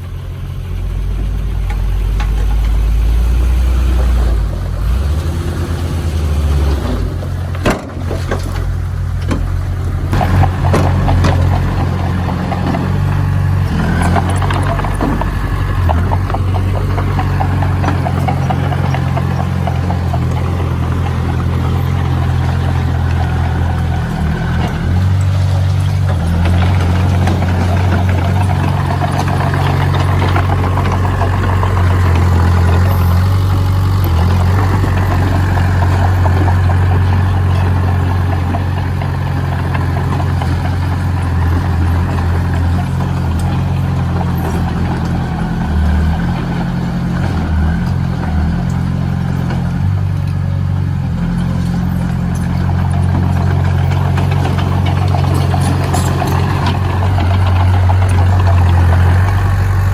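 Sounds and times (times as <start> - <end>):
heavy machine engine droning: 0.0 - 59.9.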